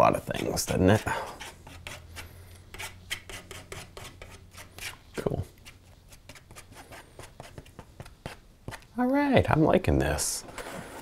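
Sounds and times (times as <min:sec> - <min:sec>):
palette knife scraping paint on canvas: 0:00.1 - 0:08.9, 0:10.4 - 0:11.0.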